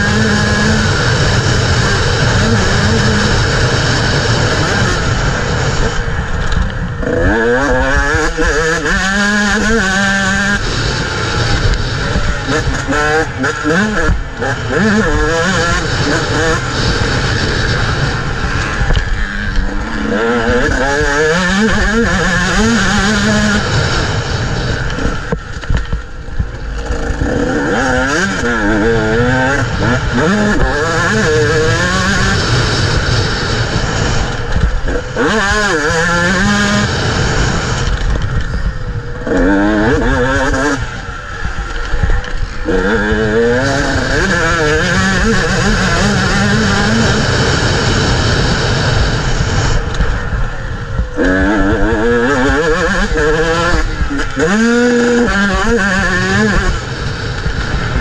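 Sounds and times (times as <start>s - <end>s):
motorbike engine revving: 0.0s - 58.0s
wind on microphone: 0.0s - 58.0s.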